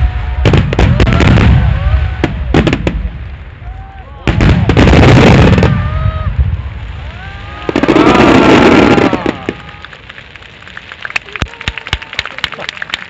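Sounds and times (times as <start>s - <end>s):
firework crackles: 0.0s - 13.0s.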